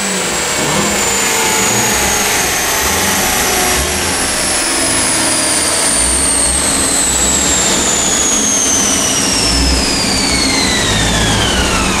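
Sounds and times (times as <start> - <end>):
high whine falling in pitch: 0.0 - 12.0
low engine rumble: 0.0 - 12.0.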